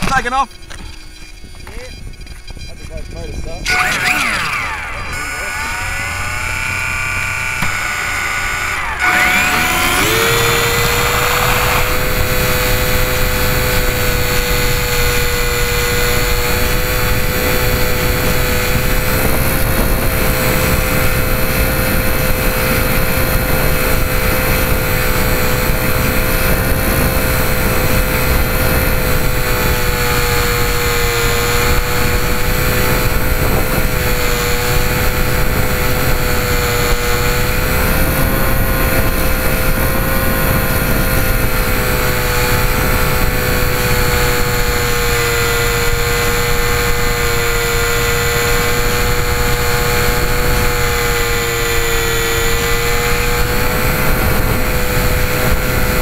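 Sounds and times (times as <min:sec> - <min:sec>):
model plane motors whining: 0:00.0 - 0:56.0
wind rushing over microphone: 0:01.4 - 0:56.0.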